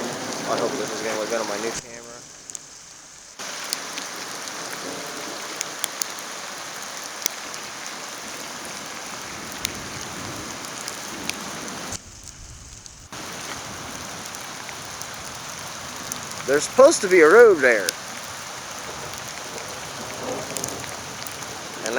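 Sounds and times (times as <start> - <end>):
rain hissing: 0.0 - 21.9
raindrops tapping nearby: 0.0 - 21.9.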